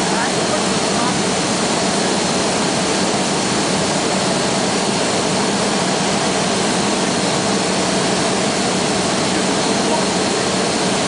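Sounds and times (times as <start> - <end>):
glass furnace and machinery roar: 0.0 - 11.0.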